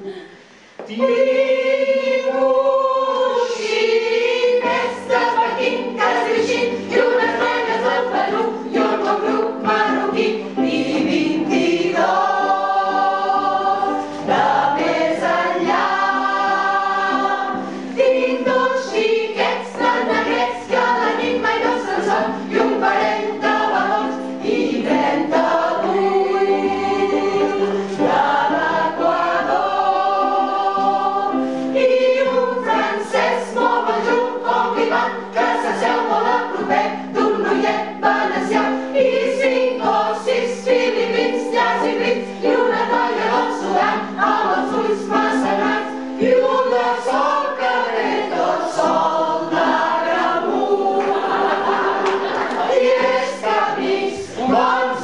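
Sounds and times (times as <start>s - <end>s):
choir singing: 0.8s - 55.0s.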